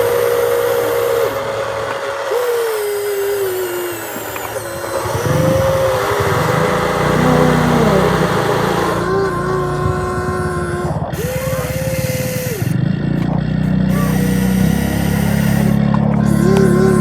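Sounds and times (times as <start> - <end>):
hydraulic pump whining: 0.0 - 17.0
rough motor sound: 0.0 - 17.0.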